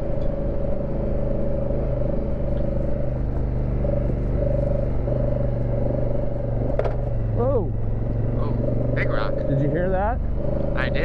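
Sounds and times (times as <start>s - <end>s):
motorcycle engine running: 0.0s - 11.0s
steady whine: 0.0s - 11.0s.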